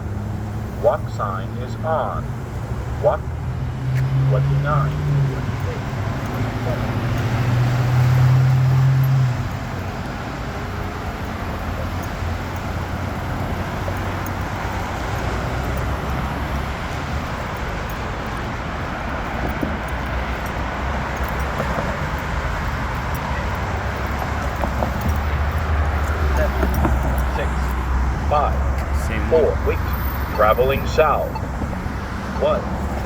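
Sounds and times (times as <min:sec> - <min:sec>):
cars passing with tyre noise: 0:00.0 - 0:33.0.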